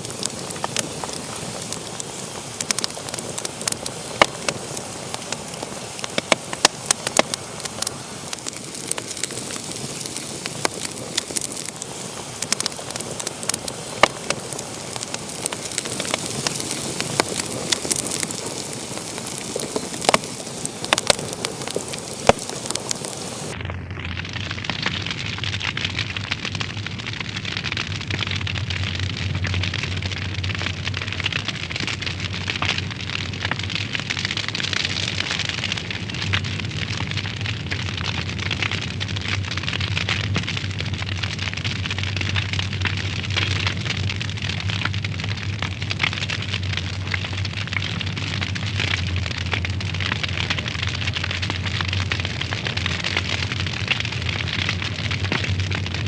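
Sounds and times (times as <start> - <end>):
fire hissing: 0.0 - 25.5, 28.6 - 56.0
wood fire crackling: 0.0 - 56.0.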